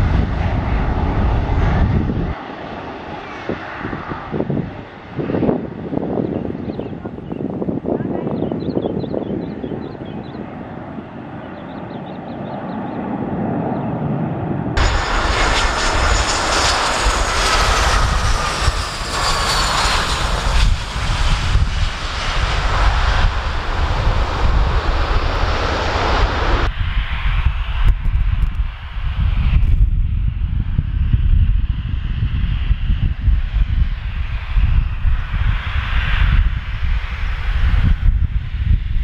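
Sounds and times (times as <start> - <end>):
airliner jet engines: 0.0 - 39.0
wind buffeting microphone: 0.0 - 39.0.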